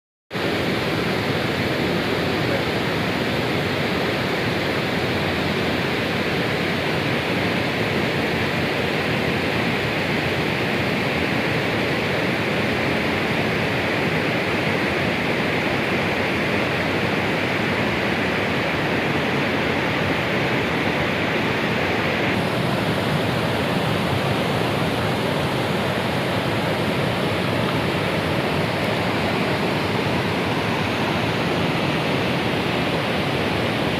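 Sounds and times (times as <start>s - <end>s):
waterfall rushing: 0.4s - 33.9s.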